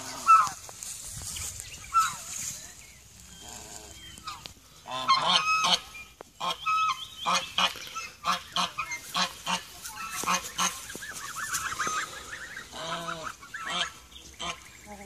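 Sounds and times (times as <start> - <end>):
geese honking: 0.0 - 0.7, 1.8 - 2.3, 3.3 - 15.0.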